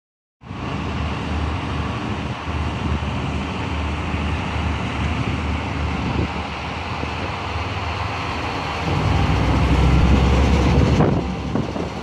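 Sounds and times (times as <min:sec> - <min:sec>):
diesel train engines rumbling: 0:00.4 - 0:12.0
wind buffeting microphone: 0:00.5 - 0:12.0.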